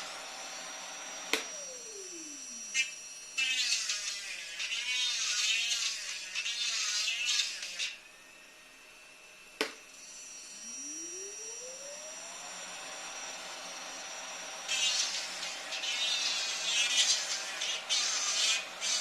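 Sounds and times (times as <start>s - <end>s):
vacuum motor whine: 0.0s - 19.0s.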